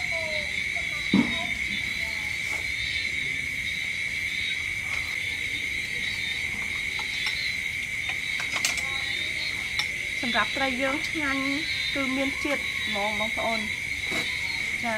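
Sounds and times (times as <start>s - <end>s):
night insects chorus: 0.0s - 14.9s.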